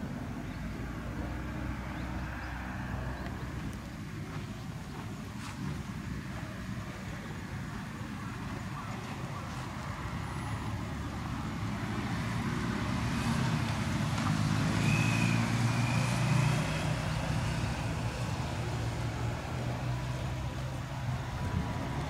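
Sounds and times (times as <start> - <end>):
vehicle engine passing: 0.0 - 4.4, 8.8 - 22.0.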